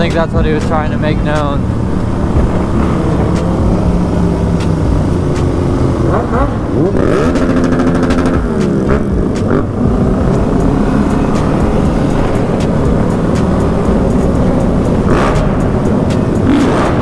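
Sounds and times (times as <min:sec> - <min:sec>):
dirt bike engine revving: 0:00.0 - 0:17.0
other motorcycle engines: 0:00.0 - 0:17.0.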